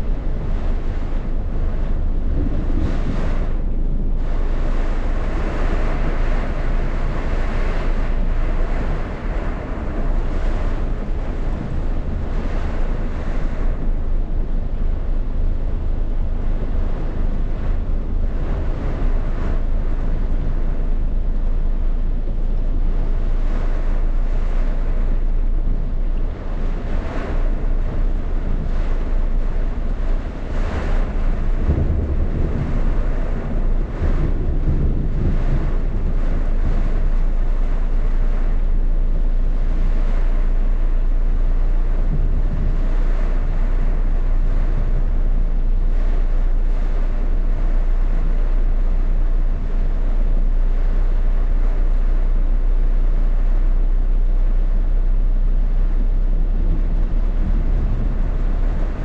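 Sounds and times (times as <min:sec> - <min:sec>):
heavy rain and wind: 0:00.0 - 0:59.0
wind rumbling on microphone: 0:00.0 - 0:59.0.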